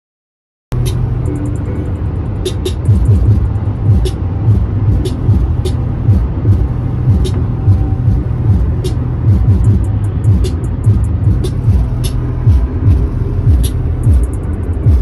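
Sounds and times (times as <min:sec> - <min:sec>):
low thumps and crisp high ticks: 0:00.7 - 0:15.0
music with heavy bass line: 0:00.7 - 0:15.0.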